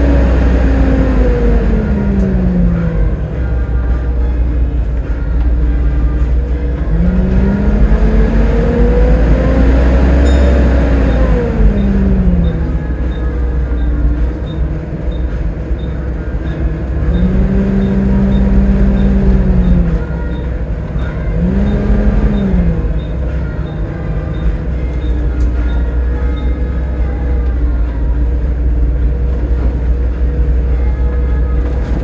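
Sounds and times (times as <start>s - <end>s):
bus engine rumbling and whining: 0.0s - 32.0s.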